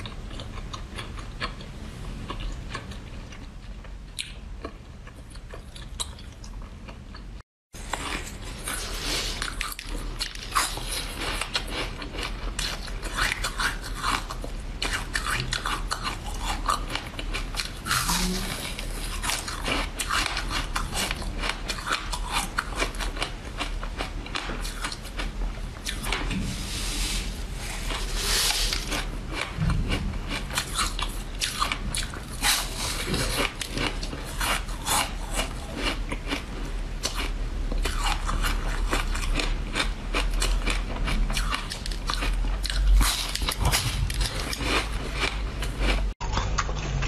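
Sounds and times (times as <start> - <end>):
soft jelly chewing: 0.0 - 47.0.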